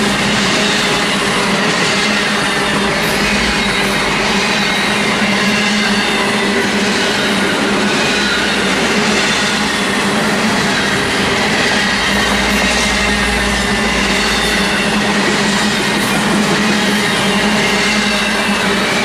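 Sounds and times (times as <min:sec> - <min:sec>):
freight train rolling past: 0:00.0 - 0:19.0
wheel squeal: 0:00.0 - 0:19.0.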